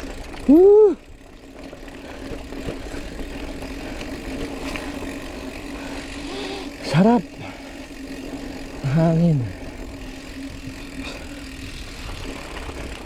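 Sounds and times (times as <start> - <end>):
mountain bike rolling on dirt: 0.0 - 13.0.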